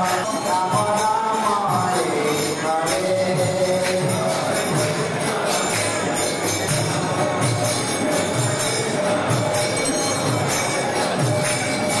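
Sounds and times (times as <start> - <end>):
devotional music: 0.0 - 12.0
jingling percussion: 0.0 - 12.0.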